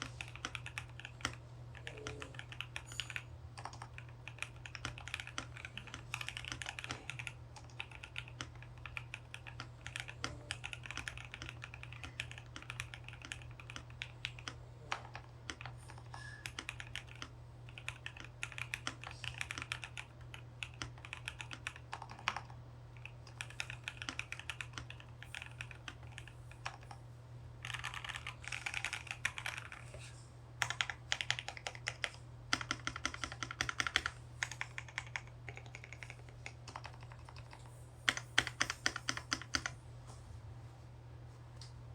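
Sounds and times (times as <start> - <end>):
mechanical keyboard typing: 0.0 - 27.0, 27.6 - 29.8, 30.6 - 39.8
steady low hum: 0.0 - 41.9.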